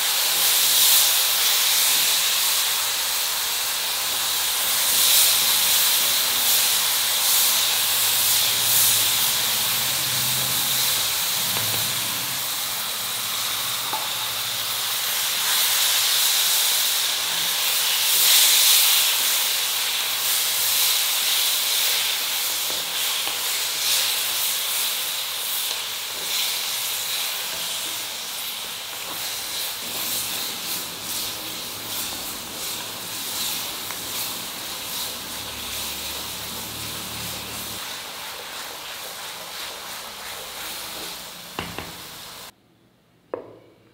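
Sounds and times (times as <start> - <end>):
vegetables sizzling in hot oil: 0.0 - 42.5.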